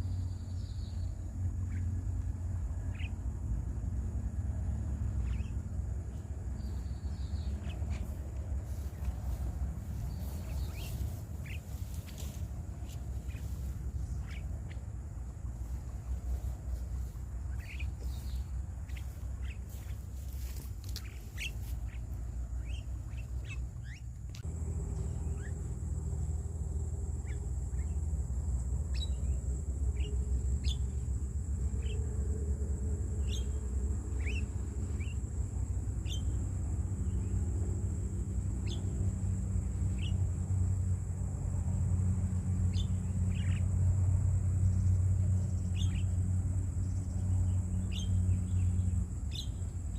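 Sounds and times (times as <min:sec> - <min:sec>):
birds chirping: 0:00.0 - 0:32.1, 0:33.1 - 0:35.4, 0:36.0 - 0:37.3, 0:38.4 - 0:40.3, 0:42.7 - 0:43.9, 0:44.6 - 0:49.9
low rumble: 0:00.0 - 0:49.9.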